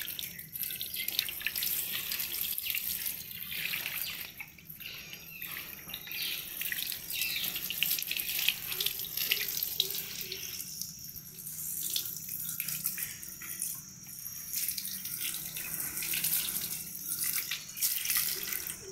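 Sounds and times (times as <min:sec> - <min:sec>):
water stream splashing into basin: 0:00.0 - 0:18.9.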